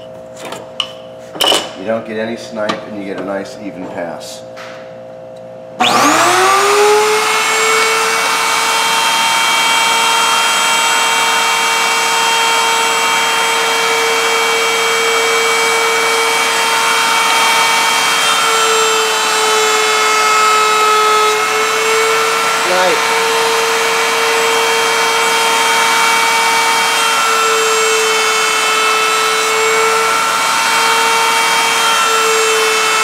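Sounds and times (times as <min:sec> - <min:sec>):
router high whine: 0:05.8 - 0:33.0
wooden bar fed past router bit: 0:05.8 - 0:33.0.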